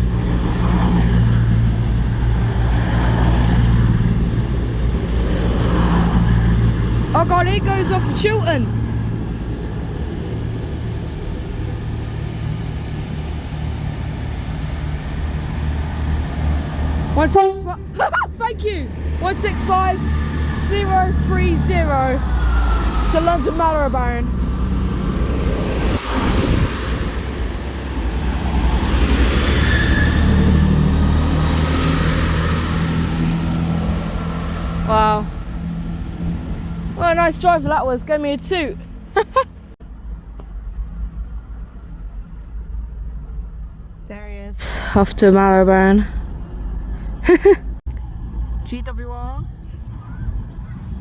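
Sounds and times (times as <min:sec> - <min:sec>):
diesel engine drone: 0:00.0 - 0:51.0.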